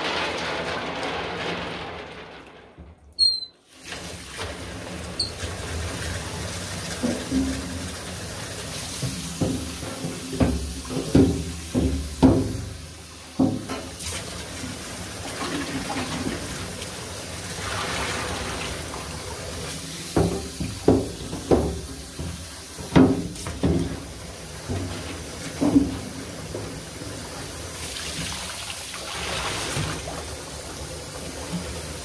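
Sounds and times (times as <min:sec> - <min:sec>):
tap water running into metal sink: 0:03.2 - 0:32.0
water pouring from metal can: 0:03.2 - 0:32.0.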